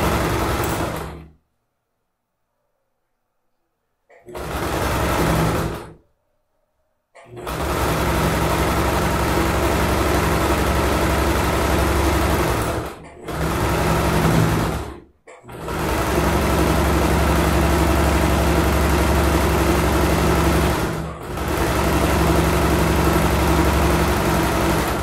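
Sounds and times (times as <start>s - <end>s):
sewing machine stitching: 0.0s - 1.4s, 4.1s - 6.0s, 7.2s - 25.0s.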